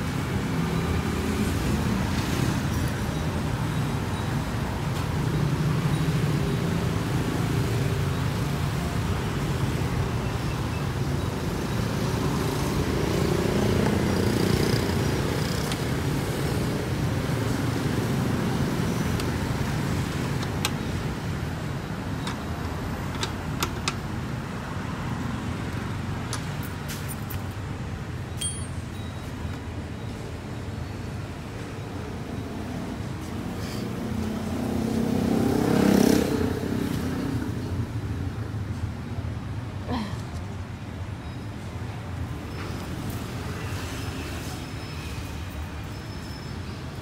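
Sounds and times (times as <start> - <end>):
traffic rumble: 0.0 - 47.0.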